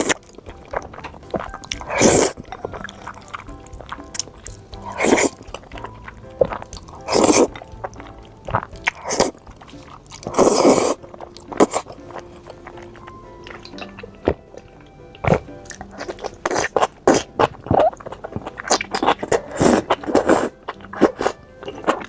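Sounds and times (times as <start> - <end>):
loud eating bites: 0.0 - 12.0, 15.2 - 22.0
quiet background music: 0.0 - 22.0
wet chewing clicks: 0.0 - 22.0.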